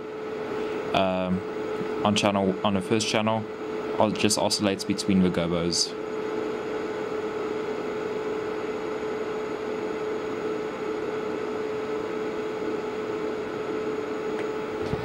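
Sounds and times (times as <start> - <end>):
mid-pitched hum: 0.0 - 15.0.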